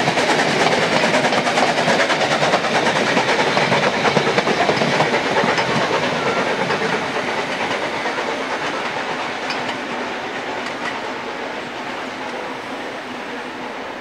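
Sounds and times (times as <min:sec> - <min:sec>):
train wheels rattling on rails: 0:00.0 - 0:14.0.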